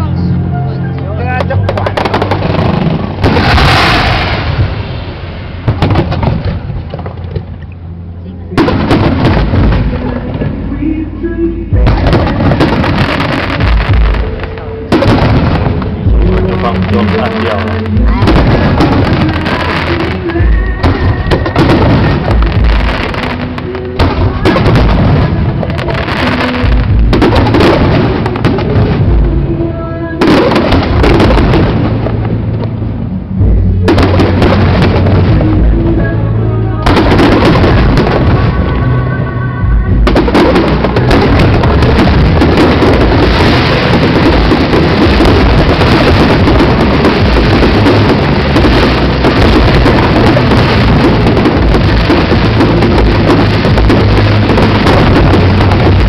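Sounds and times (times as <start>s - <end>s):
music: 0.0s - 56.0s
fireworks crackle: 1.0s - 7.8s, 8.6s - 11.0s, 11.7s - 39.3s, 40.0s - 56.0s
fireworks bangs: 1.2s - 7.5s, 8.5s - 11.1s, 11.7s - 56.0s.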